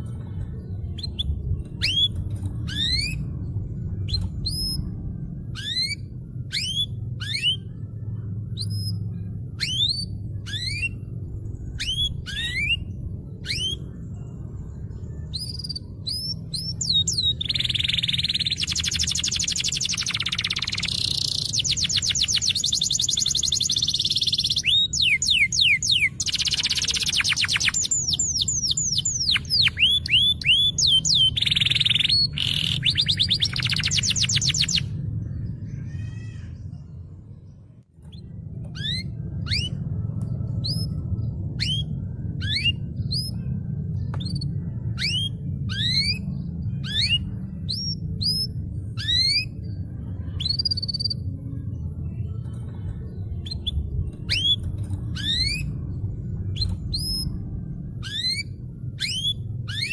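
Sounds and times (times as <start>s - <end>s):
canary singing: 0.8s - 36.8s, 38.0s - 59.9s.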